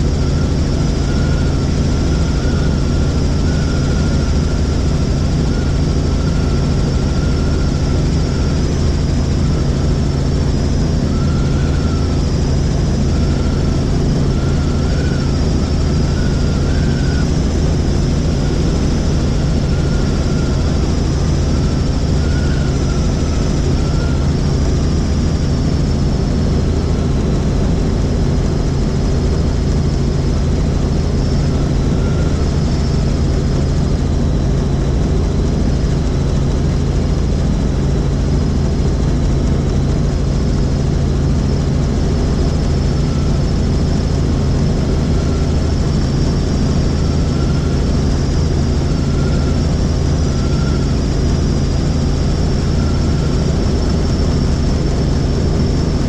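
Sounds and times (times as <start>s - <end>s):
helicopter rotor and engine drone: 0.0s - 56.0s
high wavering whine: 0.0s - 56.0s.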